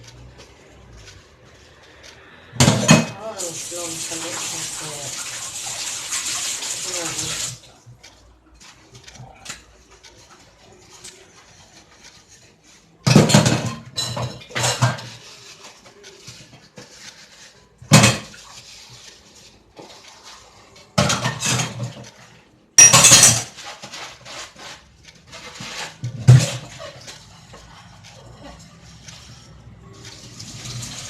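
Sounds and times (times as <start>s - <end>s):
dishes and utensils clattering: 0.0s - 19.2s, 19.8s - 31.0s.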